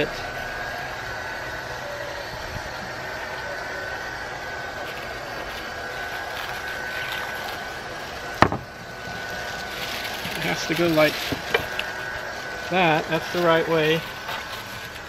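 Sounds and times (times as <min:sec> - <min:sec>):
mechanical hum: 0:00.0 - 0:15.0
thin high whine: 0:00.0 - 0:15.0.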